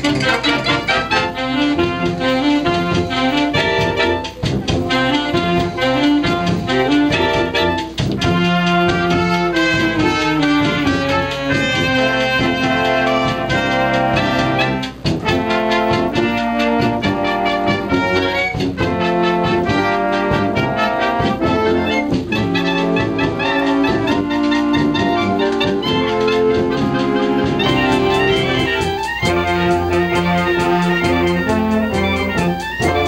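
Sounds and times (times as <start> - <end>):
brass band playing: 0.0 - 33.0.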